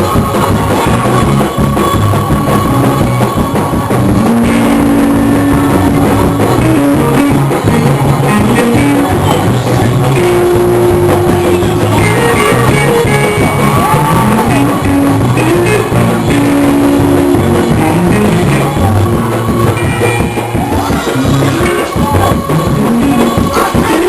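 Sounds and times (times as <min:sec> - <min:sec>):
live band praise music: 0:00.0 - 0:24.0.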